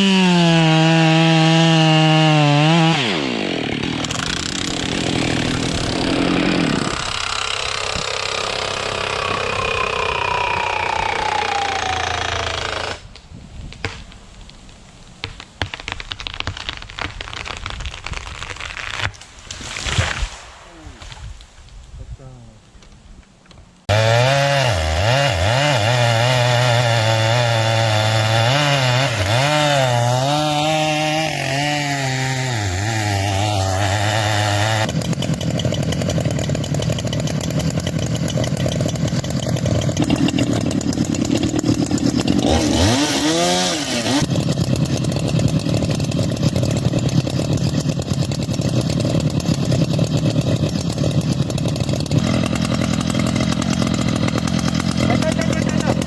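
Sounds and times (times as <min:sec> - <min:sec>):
chainsaws cutting wood: 0:00.0 - 0:13.1, 0:15.2 - 0:20.3, 0:23.9 - 0:56.0.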